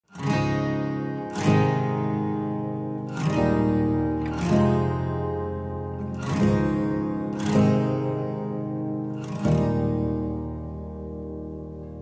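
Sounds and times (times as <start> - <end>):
acoustic guitar strumming chords: 0.1 - 12.0.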